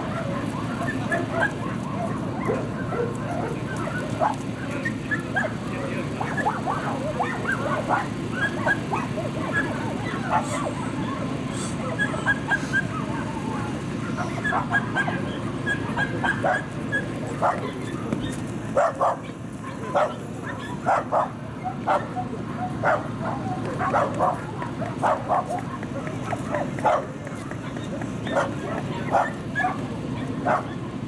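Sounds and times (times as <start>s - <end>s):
dogs barking and yipping: 0.0s - 31.0s.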